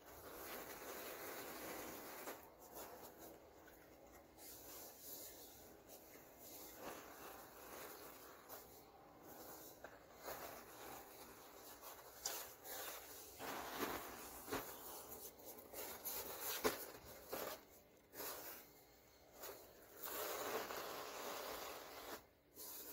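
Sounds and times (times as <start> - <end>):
powder rustling and pattering: 0.0 - 22.9.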